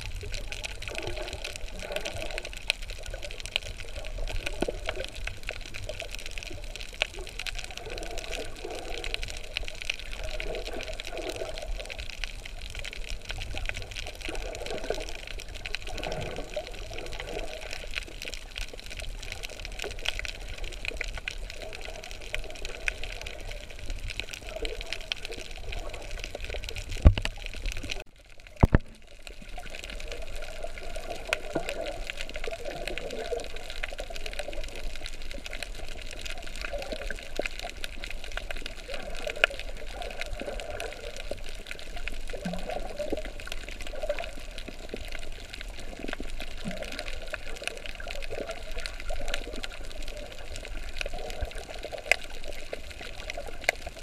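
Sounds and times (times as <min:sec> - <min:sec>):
underwater crackle: 0:00.0 - 0:54.0
water swishing: 0:00.0 - 0:54.0.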